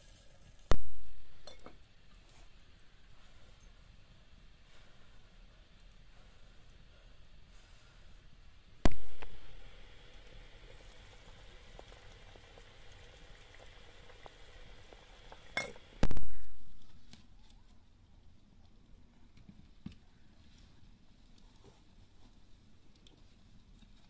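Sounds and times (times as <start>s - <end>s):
wood fire crackling faintly: 0.0s - 24.0s.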